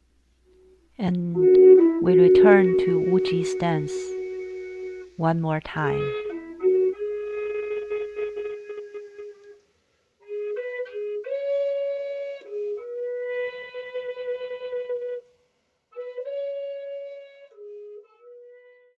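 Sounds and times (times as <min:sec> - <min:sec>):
slow flute-like melody: 0:00.4 - 0:19.0.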